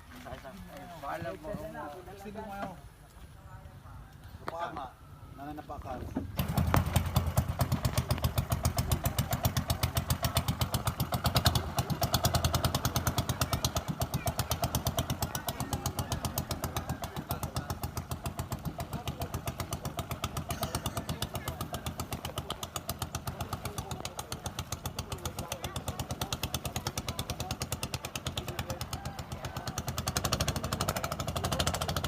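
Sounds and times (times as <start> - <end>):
small boat engine running: 6.3 - 32.0.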